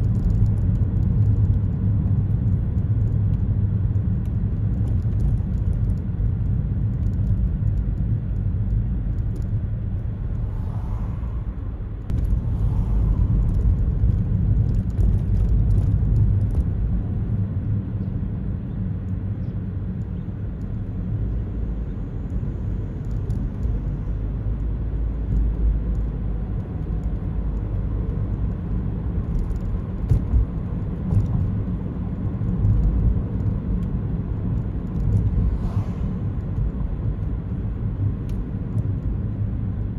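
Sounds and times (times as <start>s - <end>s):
car driving interior rumble: 0.0s - 39.9s.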